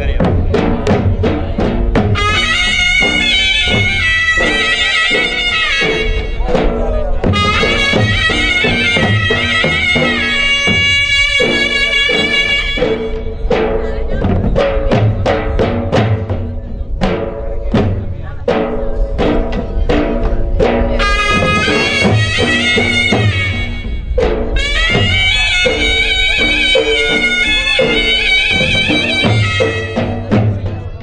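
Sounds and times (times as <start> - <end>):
drums: 0.0 - 31.0
reedy melody: 0.0 - 31.0
sharp drum strikes: 0.0 - 31.0.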